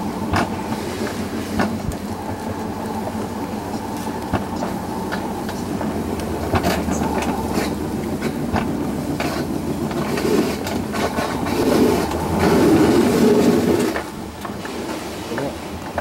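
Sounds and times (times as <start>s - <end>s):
coaster sled wheels rumbling on rails: 0.0s - 16.0s.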